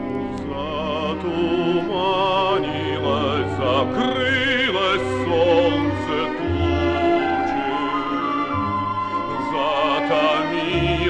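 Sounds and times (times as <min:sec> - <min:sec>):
orchestral music with strings: 0:00.0 - 0:11.0.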